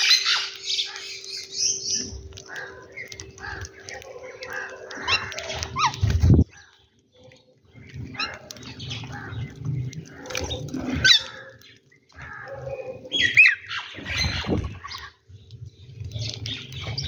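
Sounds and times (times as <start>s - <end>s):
birds squawking and calling: 0.0s - 17.0s.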